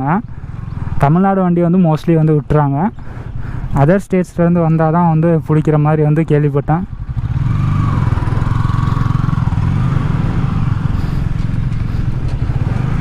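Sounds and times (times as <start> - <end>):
motorcycle engine running: 0.0 - 3.7, 5.8 - 13.0.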